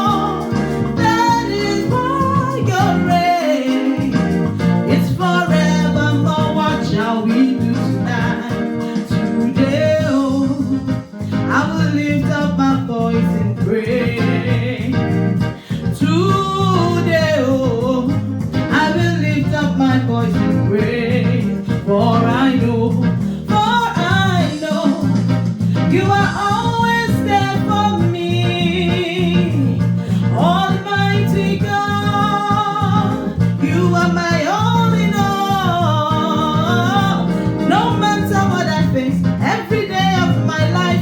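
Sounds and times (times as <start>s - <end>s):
gospel band with bass line: 0.0s - 41.0s
person singing: 0.0s - 41.0s.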